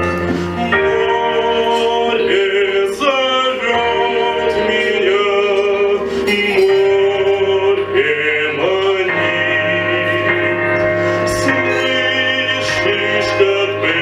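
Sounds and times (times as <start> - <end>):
instrumental accompaniment: 0.0 - 14.0
man singing classical style: 0.3 - 14.0.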